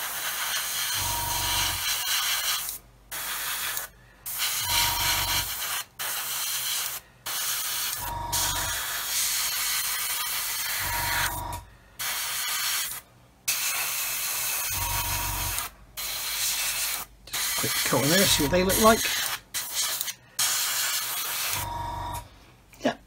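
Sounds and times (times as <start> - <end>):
airbrush hissing: 0.0 - 21.7.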